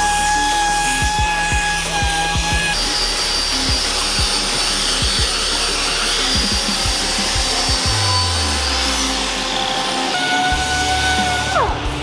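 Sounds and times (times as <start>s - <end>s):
angle grinder sanding wood: 0.0s - 12.0s
background music with a beat: 0.0s - 12.0s.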